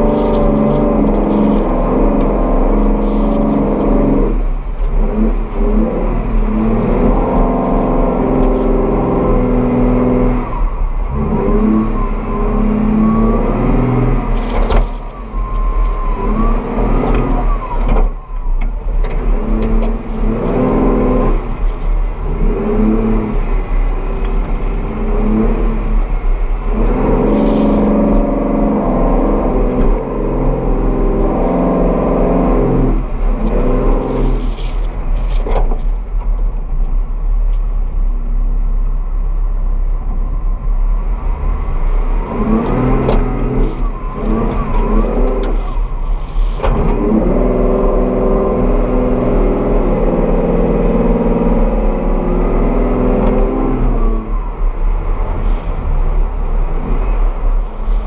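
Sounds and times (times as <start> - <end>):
off-road vehicle engine revving: 0.0 - 36.0, 40.0 - 58.0.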